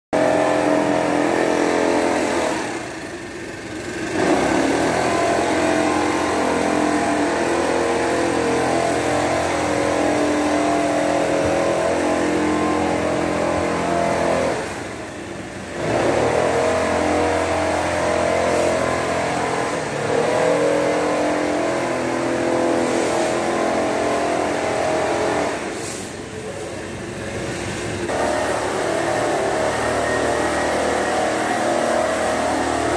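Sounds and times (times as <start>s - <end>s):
mist blower petrol engine: 0.2s - 32.9s.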